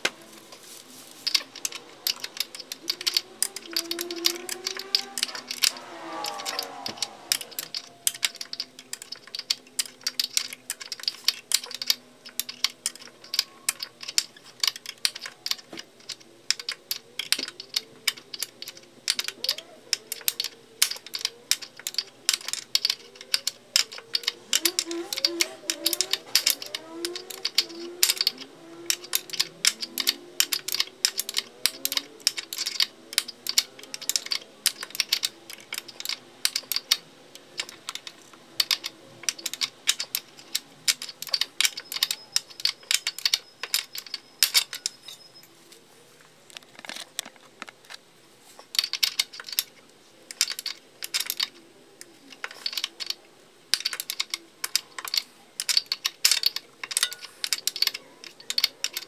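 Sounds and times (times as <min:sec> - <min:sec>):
ratchet wrench clicking: 0:01.2 - 0:45.2, 0:52.3 - 0:59.0.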